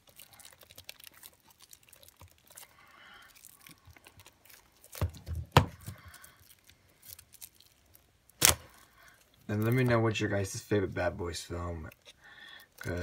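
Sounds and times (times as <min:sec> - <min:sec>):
rustling of cardboard and plastic wrap: 0:00.0 - 0:13.0.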